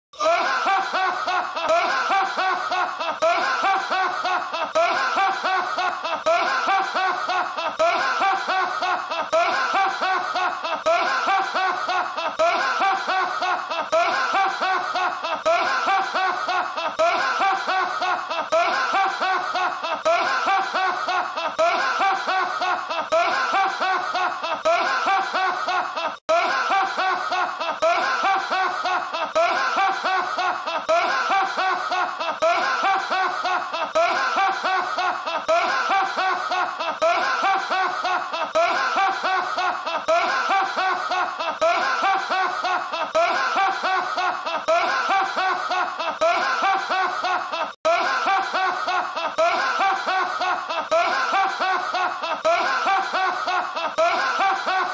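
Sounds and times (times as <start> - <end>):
man laughing heartily: 0.2 - 54.9.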